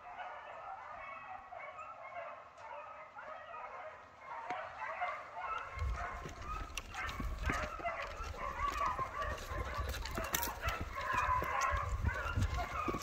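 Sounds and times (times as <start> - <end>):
dogs baying and barking: 0.0 - 13.0.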